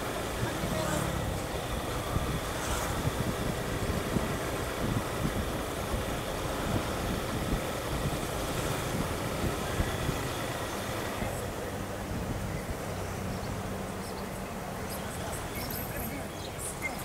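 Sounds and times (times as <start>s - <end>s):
motorcycle engine running: 0.0s - 13.6s
gusty wind on microphone: 0.0s - 13.7s.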